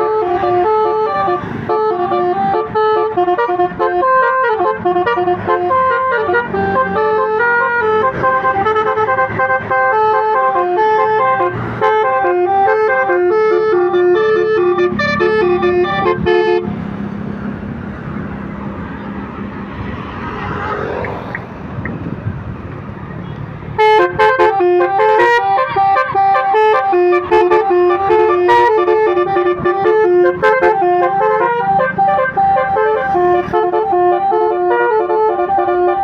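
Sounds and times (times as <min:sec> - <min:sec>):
passing traffic hum: 0:00.0 - 0:36.0
street noise: 0:00.0 - 0:36.0.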